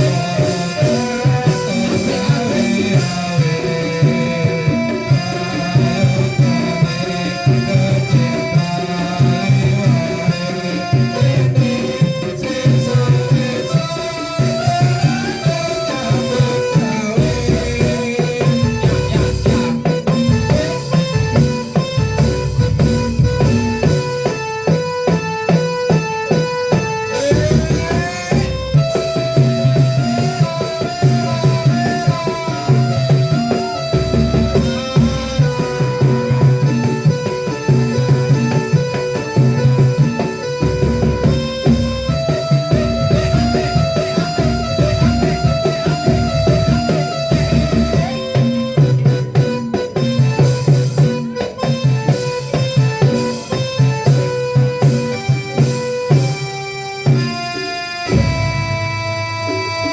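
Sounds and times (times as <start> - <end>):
melody of held notes: 0.0 - 59.9
steady drum beat: 0.0 - 59.9.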